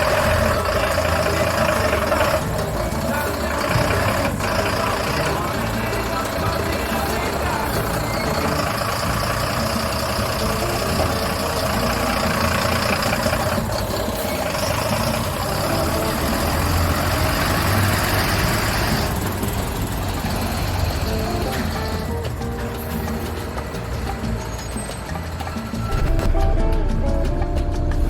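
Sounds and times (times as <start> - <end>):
truck diesel engine idling: 0.0 - 24.5.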